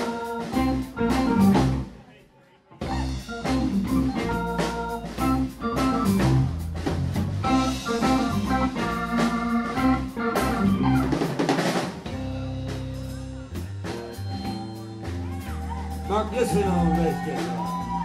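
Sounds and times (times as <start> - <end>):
organ: 0.0 - 1.9, 2.9 - 18.0
bass guitar: 0.0 - 2.0, 2.7 - 18.0
drum kit: 0.0 - 2.0, 2.8 - 18.0
electric guitars: 0.0 - 2.0, 2.8 - 18.0
live band playing funk: 0.0 - 2.0, 2.8 - 18.0.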